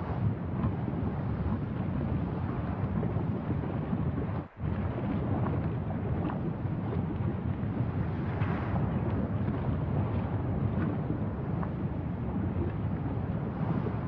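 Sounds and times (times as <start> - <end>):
deep steady rumbling: 0.0 - 14.0.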